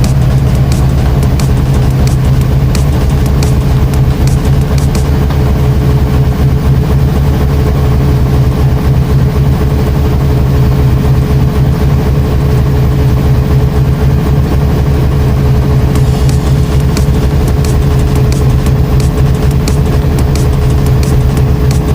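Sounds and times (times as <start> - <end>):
washing machine motor humming: 0.0 - 21.9.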